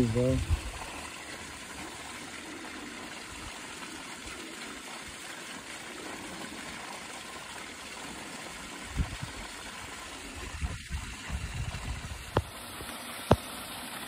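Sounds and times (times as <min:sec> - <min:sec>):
water running into a pond: 0:00.0 - 0:14.0.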